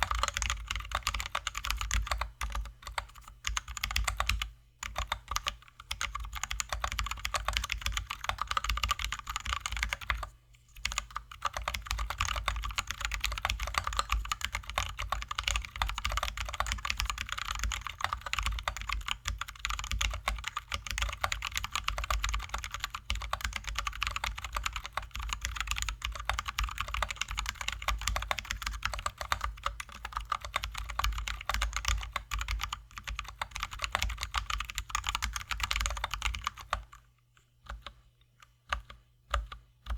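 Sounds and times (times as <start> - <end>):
fast mechanical keyboard typing: 0.0 - 36.9.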